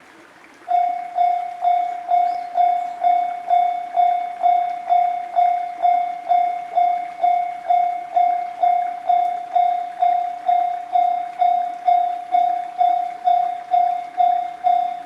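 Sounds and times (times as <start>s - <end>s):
level crossing warning bell: 0.7s - 15.0s.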